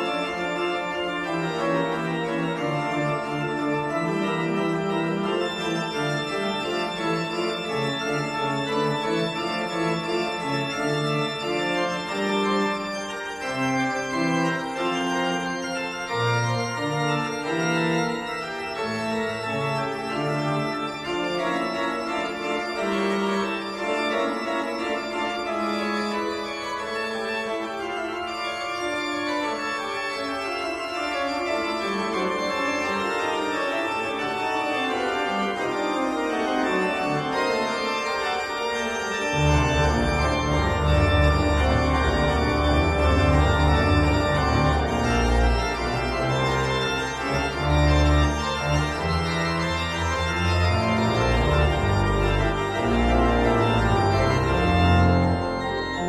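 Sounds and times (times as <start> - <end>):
organ-like keyboard chords: 0.0 - 56.0.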